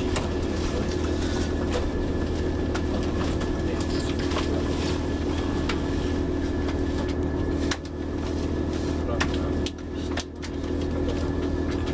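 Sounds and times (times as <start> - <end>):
train engine hum: 0.0 - 11.9.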